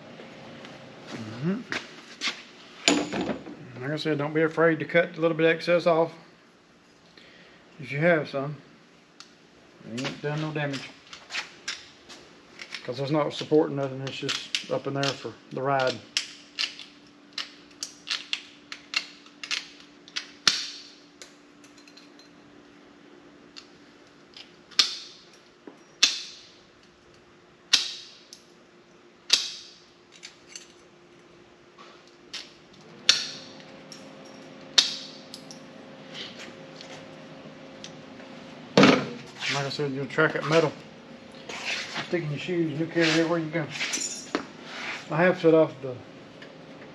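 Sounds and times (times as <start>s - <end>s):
faint hum: 0.0s - 46.9s.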